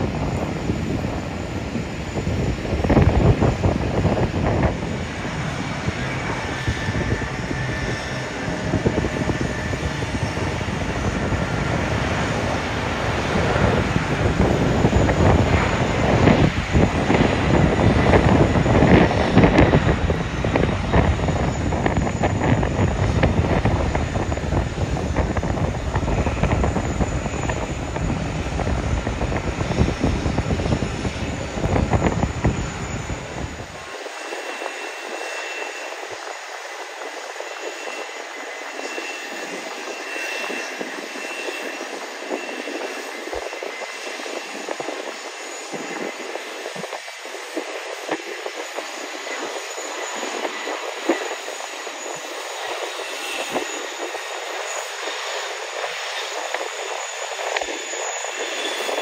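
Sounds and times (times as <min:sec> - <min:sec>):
jet airliner engines rumbling: 0:00.0 - 0:59.0.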